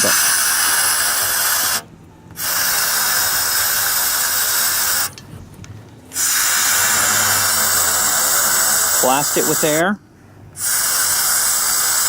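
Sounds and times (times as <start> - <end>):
compressed air blowing: 0.0 - 5.2, 6.1 - 9.9, 10.5 - 12.0.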